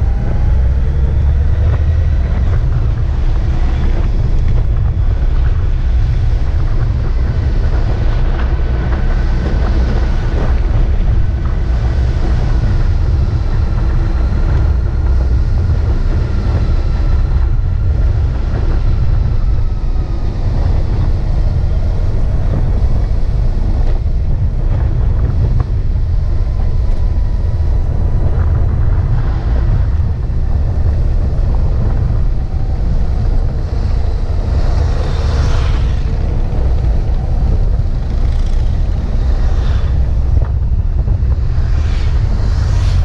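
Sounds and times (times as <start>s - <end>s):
motorcycle engine running: 0.0s - 43.0s
wind on microphone: 0.0s - 43.0s.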